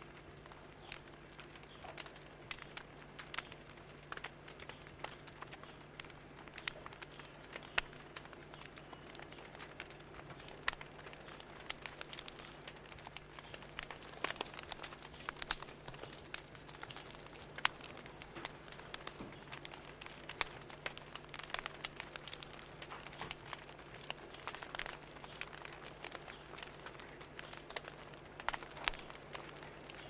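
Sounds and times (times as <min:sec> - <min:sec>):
fire crackling: 0:00.0 - 0:30.0
low steady hum: 0:00.0 - 0:30.0.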